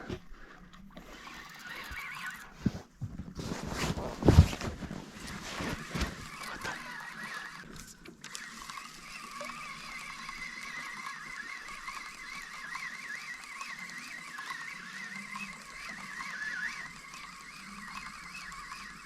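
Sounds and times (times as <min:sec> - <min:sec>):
spinning reel whining: 0:00.7 - 0:02.6, 0:05.1 - 0:19.0.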